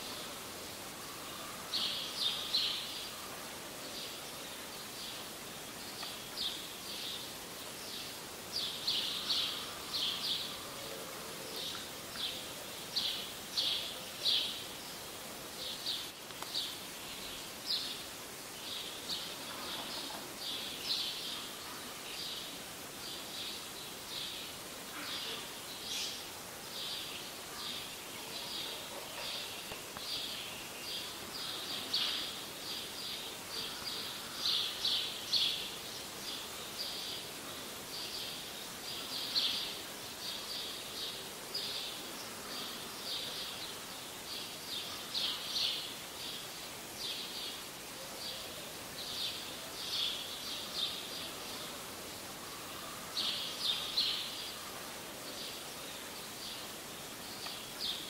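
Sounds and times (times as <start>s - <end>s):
faint steady hiss: 0.0s - 58.0s
small birds chirping: 0.0s - 58.0s.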